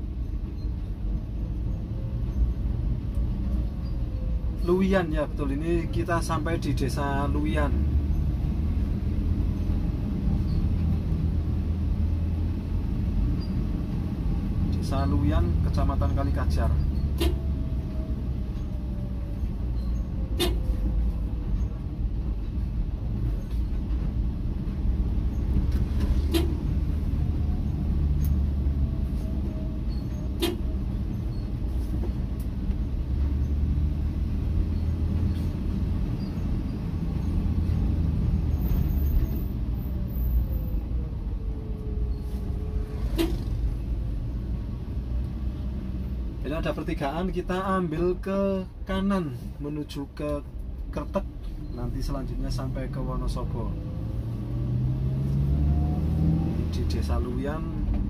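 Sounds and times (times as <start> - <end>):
vehicle driving rumble: 0.0 - 58.0.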